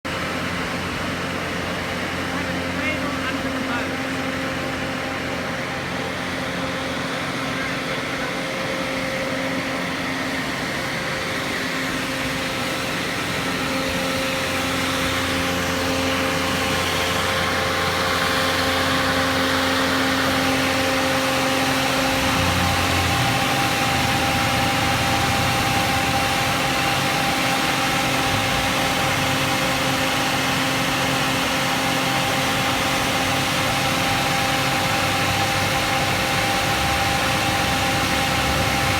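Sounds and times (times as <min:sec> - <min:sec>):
engine humming: 0:00.1 - 0:38.9.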